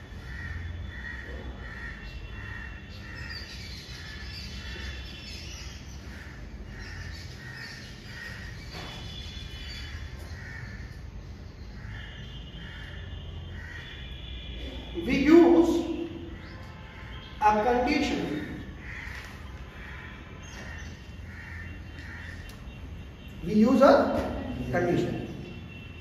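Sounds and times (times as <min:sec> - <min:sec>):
crows cawing: 0:00.0 - 0:23.4.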